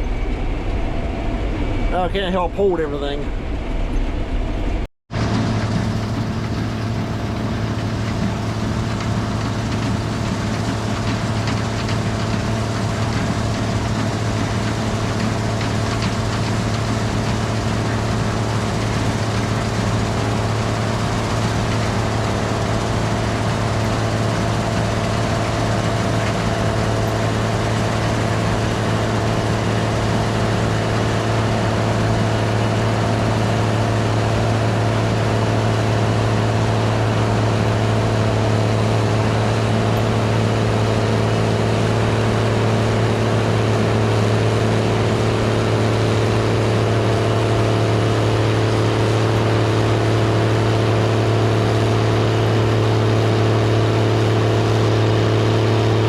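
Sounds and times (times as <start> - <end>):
combine harvester machinery drone: 0.0 - 56.0.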